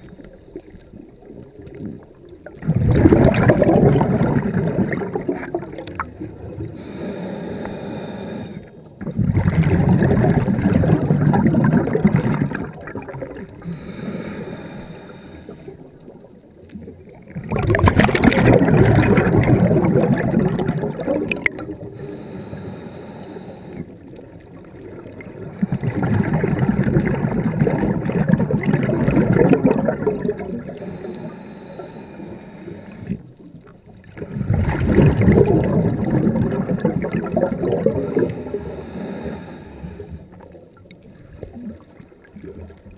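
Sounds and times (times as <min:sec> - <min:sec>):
exhaled bubbles rushing: 0:00.9 - 0:07.0, 0:08.9 - 0:13.9, 0:15.6 - 0:22.4, 0:23.8 - 0:42.9.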